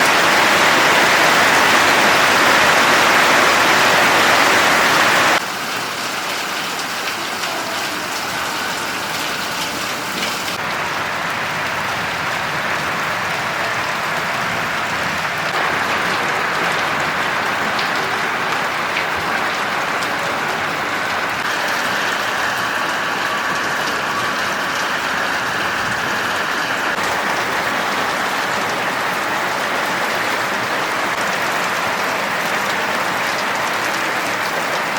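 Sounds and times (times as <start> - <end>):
heavy rain pattering: 0.0 - 34.9.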